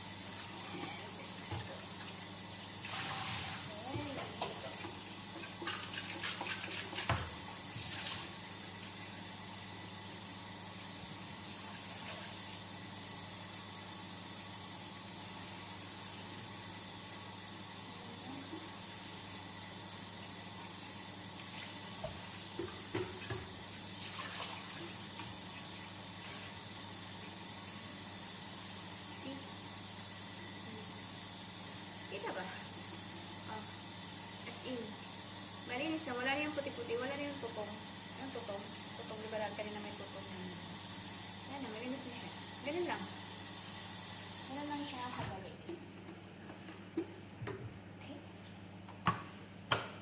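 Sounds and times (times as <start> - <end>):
water running from a tap: 0.0 - 45.8.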